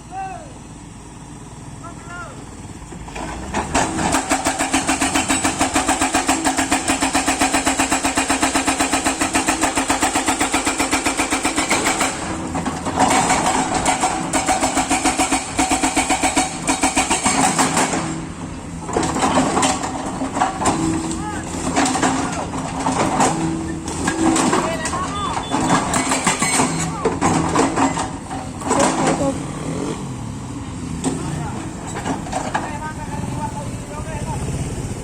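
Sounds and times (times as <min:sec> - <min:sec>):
excavator fast pulsing: 0:02.4 - 0:35.0.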